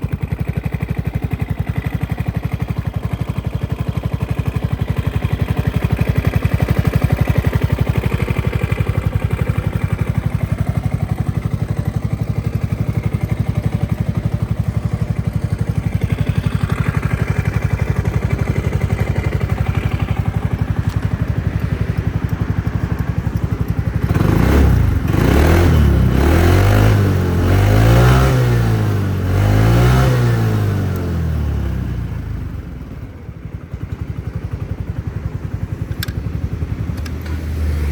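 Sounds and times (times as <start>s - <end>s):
scooter engine idling and revving: 0.0s - 37.9s.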